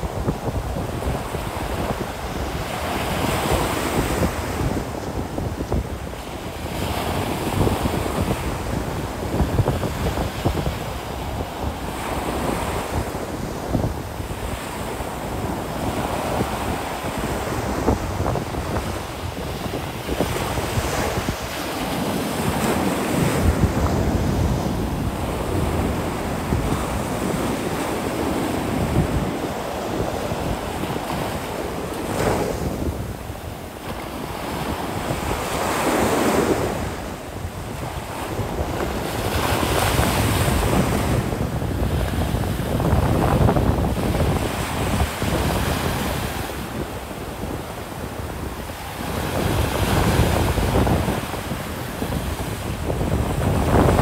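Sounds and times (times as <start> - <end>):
ocean surf breaking: 0.0 - 54.0
wind rumbling on microphone: 0.0 - 54.0.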